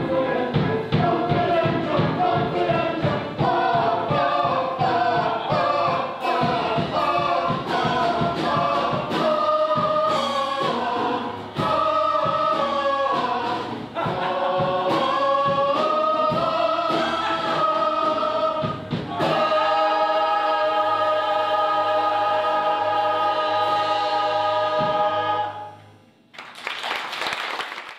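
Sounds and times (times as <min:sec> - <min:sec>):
chorus singing together: 0:00.0 - 0:25.9.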